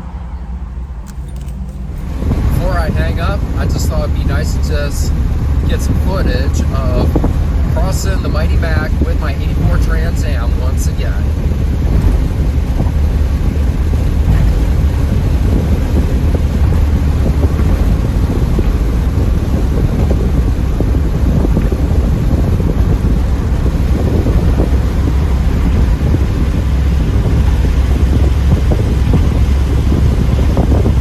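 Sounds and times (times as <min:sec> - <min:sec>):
car engine and road rumble: 0:00.0 - 0:31.0
wind buffeting microphone: 0:01.6 - 0:31.0.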